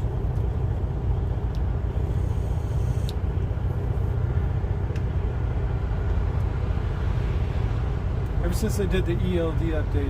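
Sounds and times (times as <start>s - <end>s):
truck engine rumble from cab: 0.0s - 10.0s.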